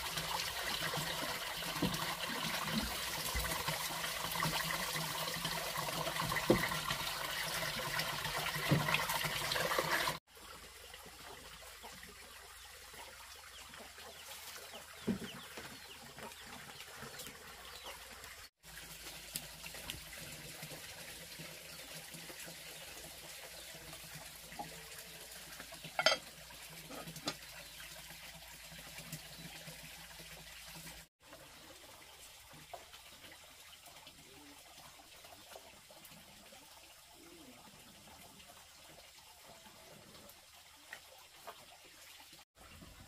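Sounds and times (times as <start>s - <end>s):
water trickling: 0.0s - 43.0s.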